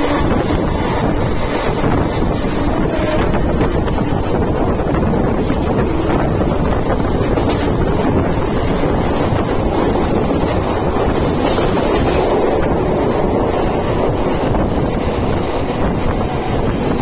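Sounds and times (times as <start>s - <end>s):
train running rumble: 0.0s - 17.0s
wind blowing on microphone: 0.0s - 17.0s.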